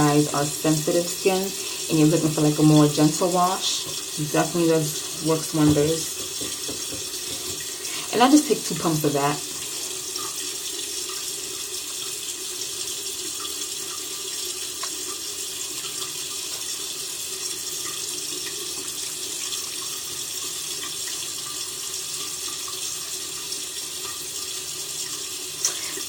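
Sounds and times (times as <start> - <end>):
sink tap running: 0.0 - 26.0.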